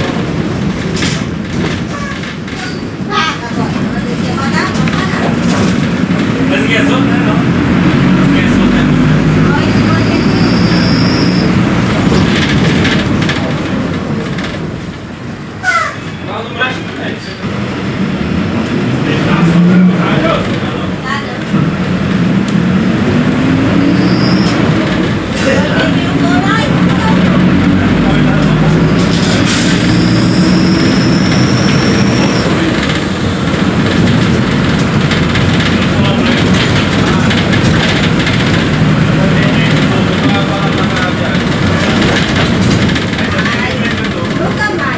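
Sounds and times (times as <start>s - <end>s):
bus diesel engine rumble: 0.0s - 44.9s.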